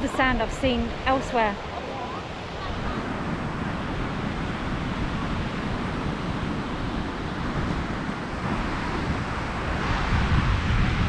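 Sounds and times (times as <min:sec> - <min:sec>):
ocean surf on sandy beach: 0:00.0 - 0:11.0
wind rumbling on microphone: 0:00.0 - 0:11.0.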